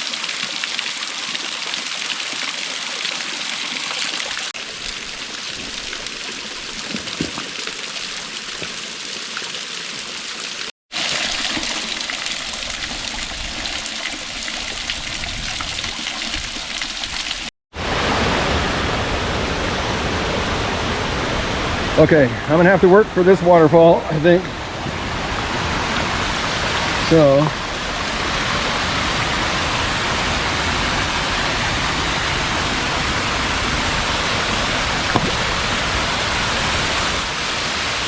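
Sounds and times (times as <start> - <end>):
creek water rushing: 0.0 - 38.0.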